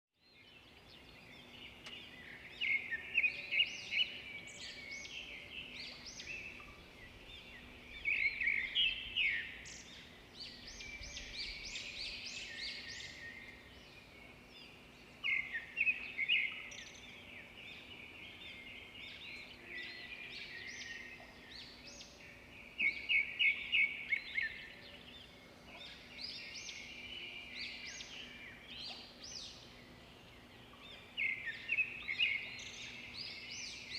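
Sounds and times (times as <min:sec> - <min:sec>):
birds chirping and calling: 0:00.8 - 0:33.9.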